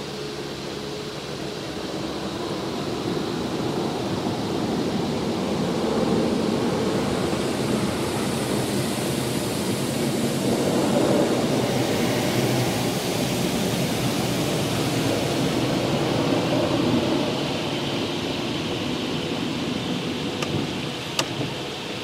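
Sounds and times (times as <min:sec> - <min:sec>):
water spraying on car: 0:00.0 - 0:22.0.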